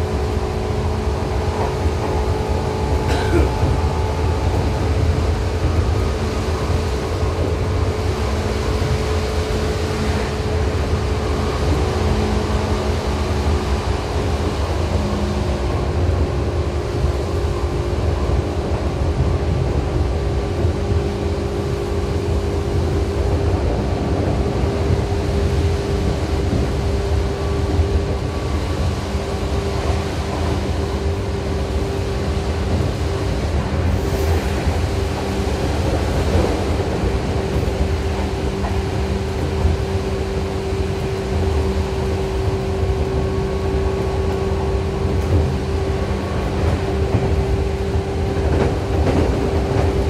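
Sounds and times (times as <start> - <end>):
train wheels rumbling: 0.0 - 50.0.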